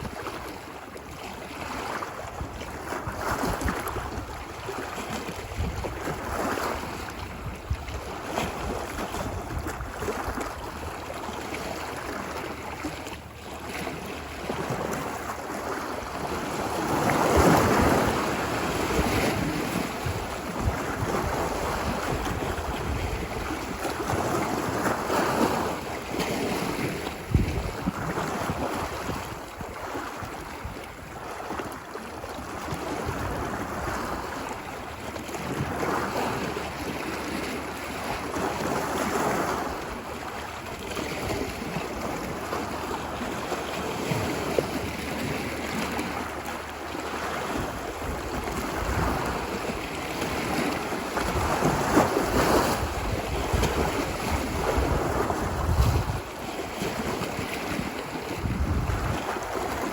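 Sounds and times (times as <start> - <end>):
wind rumbling on microphone: 0.0 - 13.0, 13.6 - 59.9
ocean waves breaking: 0.0 - 59.9.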